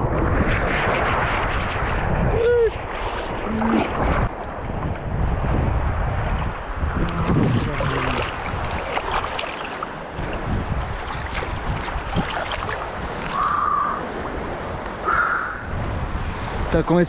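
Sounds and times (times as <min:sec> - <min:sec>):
wind buffeting microphone: 0:00.0 - 0:17.0
water lapping and sloshing: 0:03.1 - 0:16.8.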